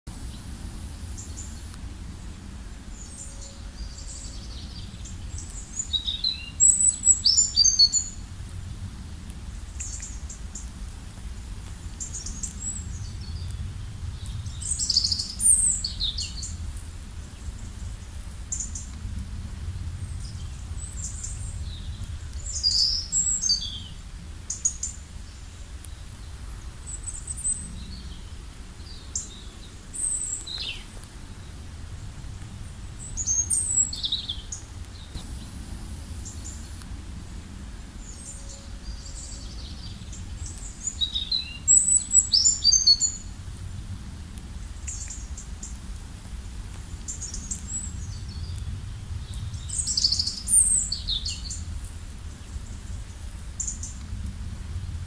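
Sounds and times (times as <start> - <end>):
songbirds chirping: 0.1 - 43.6, 44.3 - 55.0
faint low rumble: 0.1 - 55.0.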